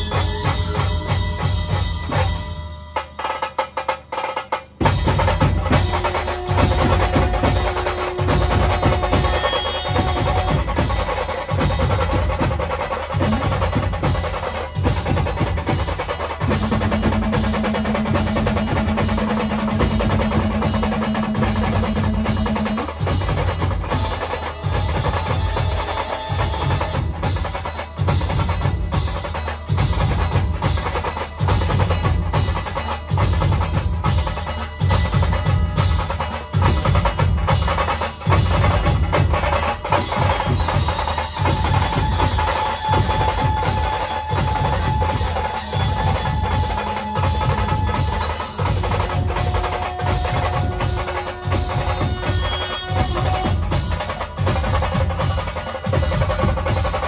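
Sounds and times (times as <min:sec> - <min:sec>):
fast rolling drum strokes: 0:00.0 - 0:57.0
heavy drum beats: 0:00.0 - 0:57.0.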